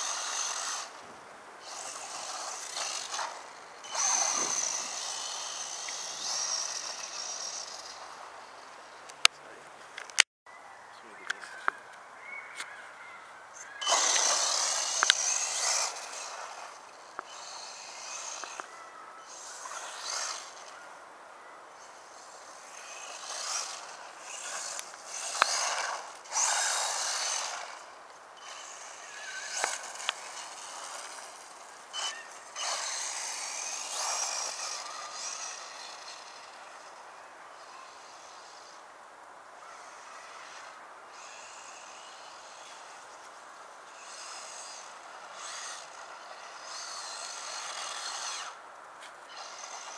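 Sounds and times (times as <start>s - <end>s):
rc truck motor revving: 0.0s - 9.3s, 13.7s - 21.0s, 21.7s - 49.9s
tyres on loose gravel: 0.0s - 10.2s, 13.6s - 49.9s.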